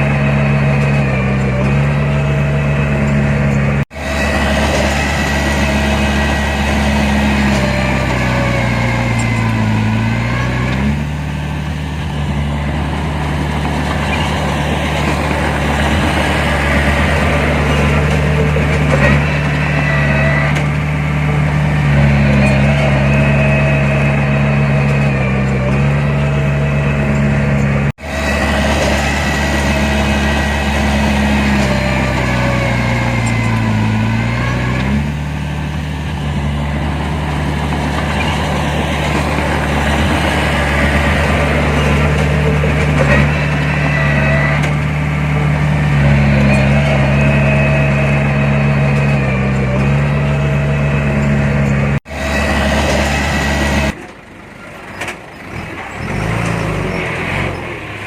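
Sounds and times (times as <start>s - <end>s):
diesel machinery engine running: 0.0s - 58.0s.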